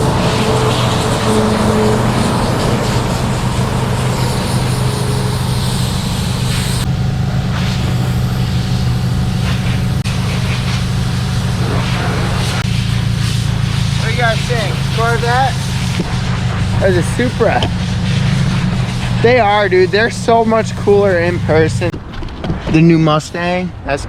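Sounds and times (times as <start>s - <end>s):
outdoor noise: 0.0s - 24.0s
vehicle engine humming: 0.0s - 24.0s.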